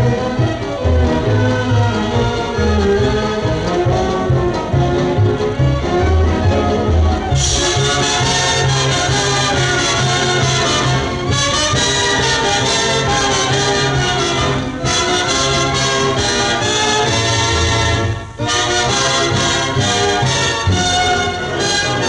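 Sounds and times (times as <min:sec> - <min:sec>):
orchestral music with brass: 0:00.0 - 0:22.0.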